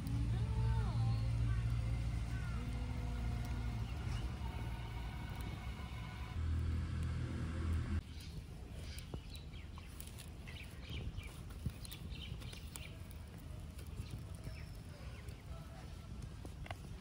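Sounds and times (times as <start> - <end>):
birds chirping: 0.0 - 6.4, 7.9 - 16.4
low steady rumble: 0.0 - 17.0
wood fire crackling: 0.0 - 17.0.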